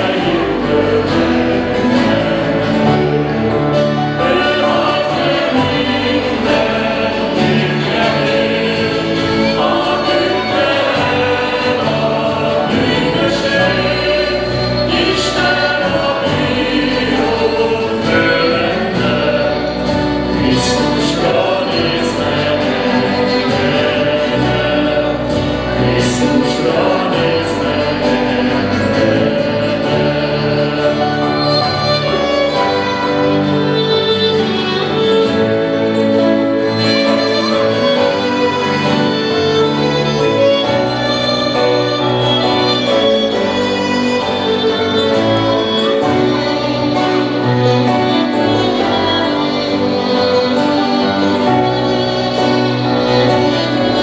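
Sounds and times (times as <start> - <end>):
acoustic guitars: 0.0 - 54.0
keyboard: 0.0 - 54.0
violin: 0.0 - 54.0
voices singing: 0.0 - 54.0.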